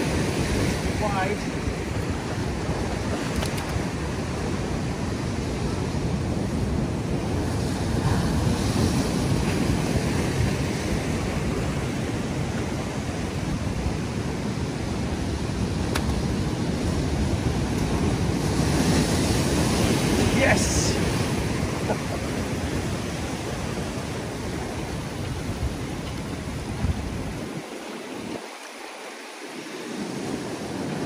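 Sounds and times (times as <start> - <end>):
surf washing over rocks: 0.0 - 31.0
wind buffeting microphone: 0.0 - 31.0.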